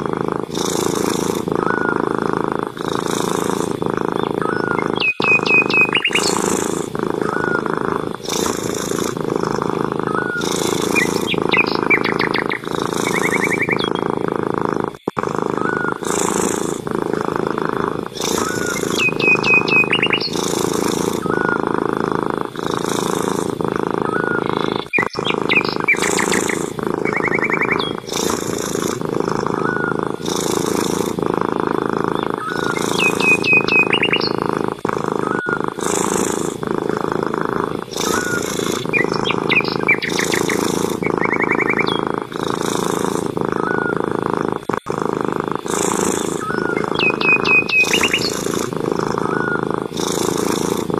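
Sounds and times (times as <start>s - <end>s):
cat purring: 0.0s - 50.9s
bird chirps and trills: 0.5s - 2.0s, 2.8s - 14.2s, 15.5s - 21.6s, 22.6s - 31.2s, 32.0s - 34.6s, 35.2s - 37.0s, 37.8s - 43.0s, 43.6s - 44.0s, 45.6s - 50.7s.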